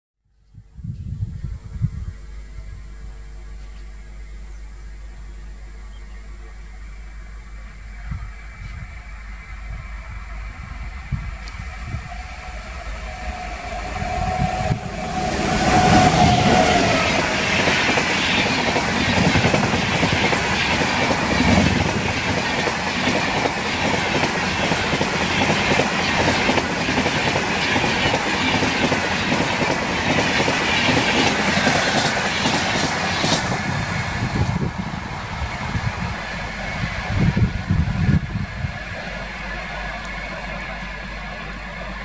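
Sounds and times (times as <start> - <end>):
train passing: 6.2 - 42.0.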